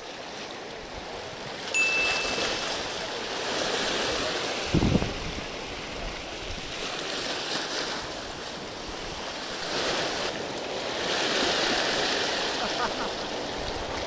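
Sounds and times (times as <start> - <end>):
sea waves breaking over rocks: 0.0 - 14.0.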